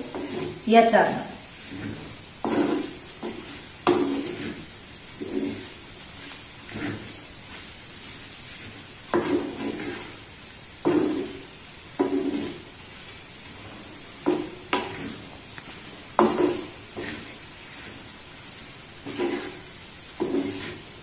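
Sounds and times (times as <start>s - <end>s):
faint sizzle: 0.0s - 21.0s
wooden spatula scraping pot: 0.0s - 21.0s.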